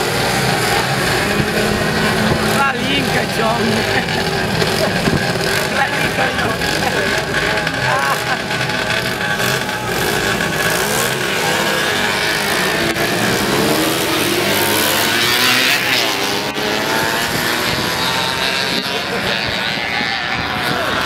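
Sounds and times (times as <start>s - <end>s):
small motorcycles revving: 0.0s - 21.0s.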